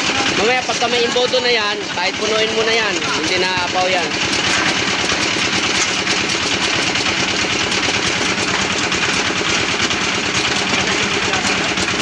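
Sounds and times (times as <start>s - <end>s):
machine running hum: 0.0s - 12.0s.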